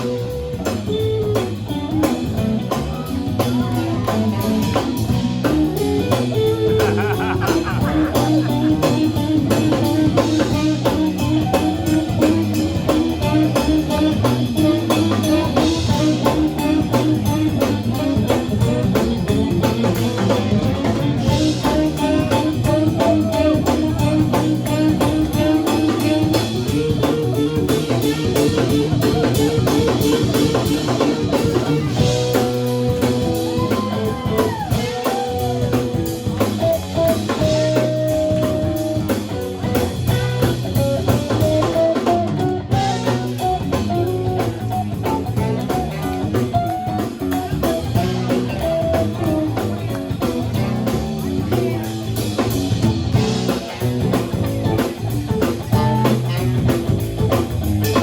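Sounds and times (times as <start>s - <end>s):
bass guitar: 0.0s - 58.0s
drum kit beat: 0.0s - 58.0s
guitar lead notes: 0.0s - 58.0s.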